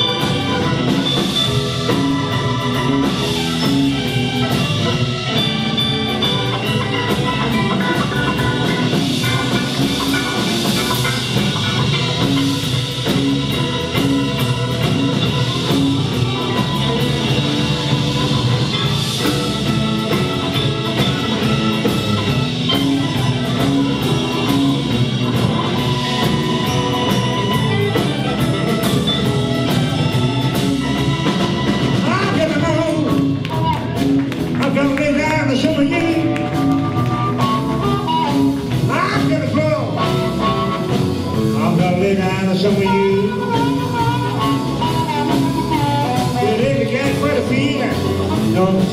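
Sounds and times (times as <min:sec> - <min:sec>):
bass guitar: 0:00.0 - 0:48.9
drum kit: 0:00.0 - 0:48.9
electric guitar playing: 0:00.0 - 0:48.9.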